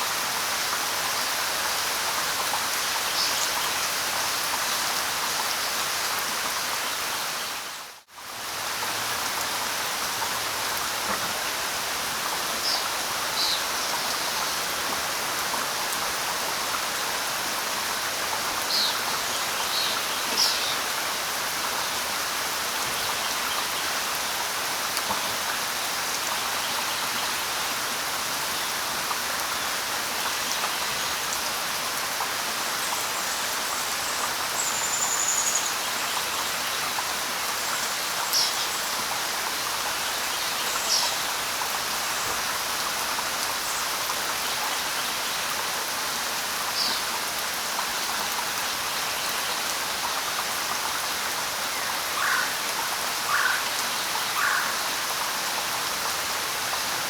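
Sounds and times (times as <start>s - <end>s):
light rain on leaves: 0.0s - 57.0s.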